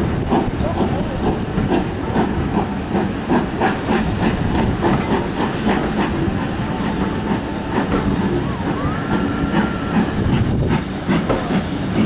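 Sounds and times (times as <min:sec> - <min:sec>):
steady steam hiss: 0:00.0 - 0:12.0
steam locomotive chuffs: 0:00.0 - 0:12.0.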